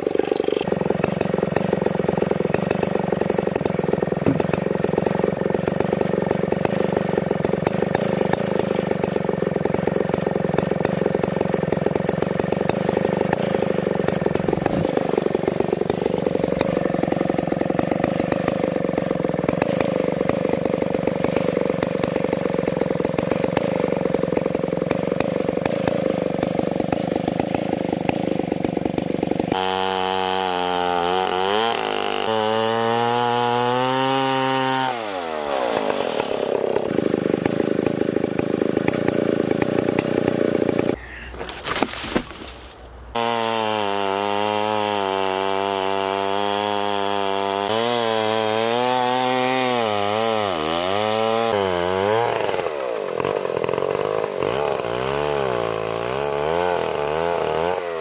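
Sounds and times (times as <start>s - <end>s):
chainsaw running at high revs: 0.0s - 41.8s, 43.1s - 58.0s
chainsaw whine: 0.0s - 58.0s.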